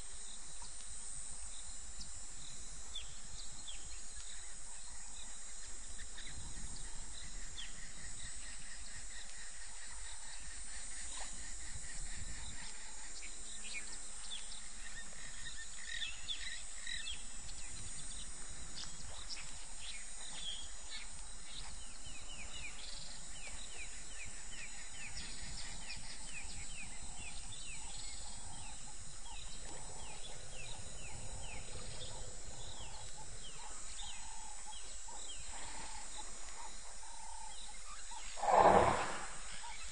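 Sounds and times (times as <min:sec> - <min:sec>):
insect hum: 0:00.0 - 0:39.9.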